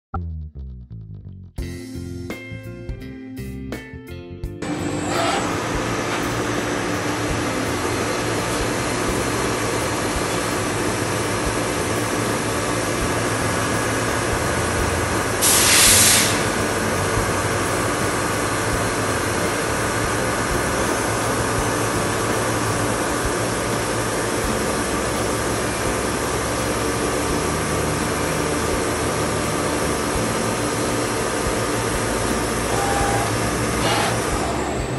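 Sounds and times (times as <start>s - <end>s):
loud hiss: 4.6s - 34.8s
lathe machine whirring: 4.6s - 34.9s.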